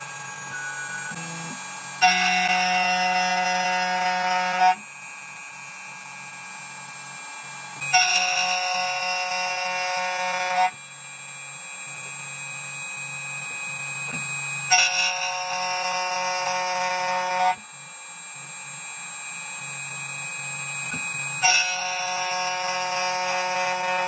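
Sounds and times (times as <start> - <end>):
high ringing screech: 0.0 - 24.0
key cutting machine spindle whine: 0.0 - 24.0.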